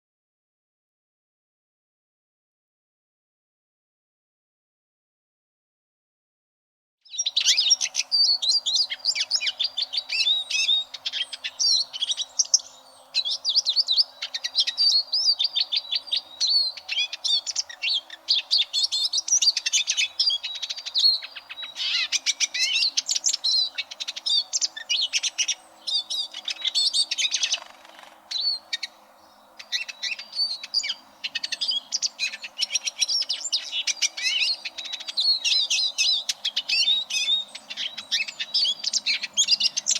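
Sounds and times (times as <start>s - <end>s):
bird twittering song: 7.1s - 39.9s.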